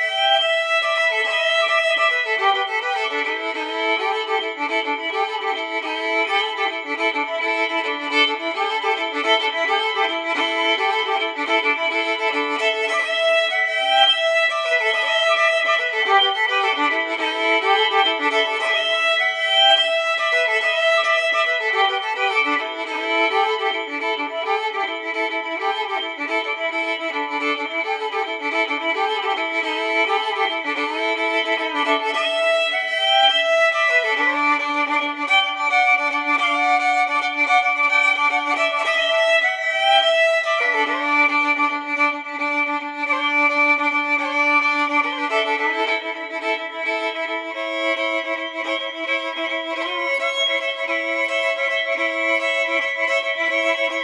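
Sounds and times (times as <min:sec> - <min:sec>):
violin music: 0:00.0 - 0:54.0.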